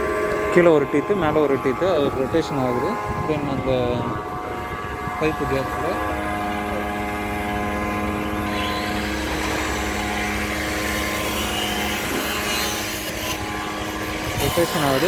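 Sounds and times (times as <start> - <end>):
machine motor running: 0.0 - 15.0.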